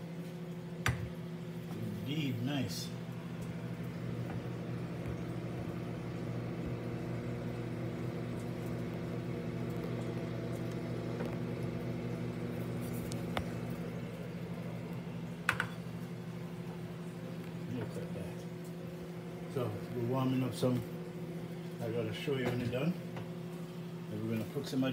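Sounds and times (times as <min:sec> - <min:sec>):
kitchen appliance electrical hum: 0:00.0 - 0:24.9.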